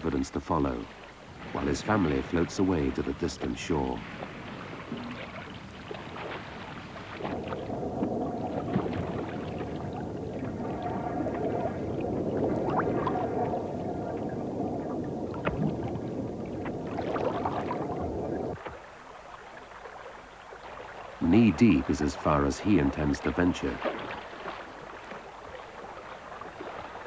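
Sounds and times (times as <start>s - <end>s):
small water splashes: 0.0s - 27.0s
water sloshing and gurgling: 0.0s - 27.0s.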